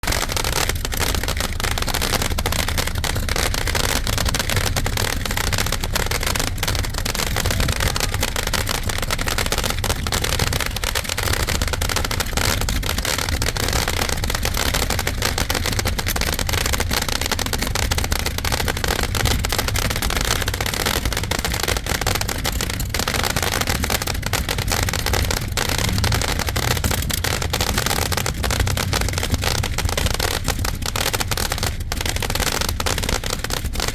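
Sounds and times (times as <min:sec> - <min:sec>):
low rumble: 0:00.0 - 0:33.4
fireworks popping and crackling: 0:00.0 - 0:33.9.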